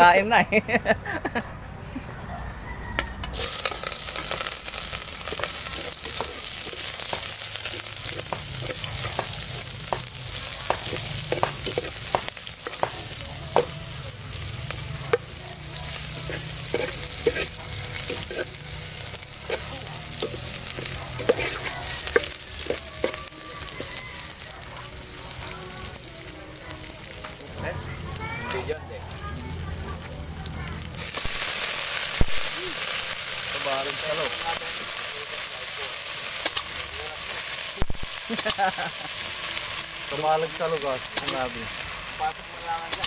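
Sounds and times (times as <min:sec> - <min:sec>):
onions sizzling in hot oil: 0:03.3 - 0:43.0.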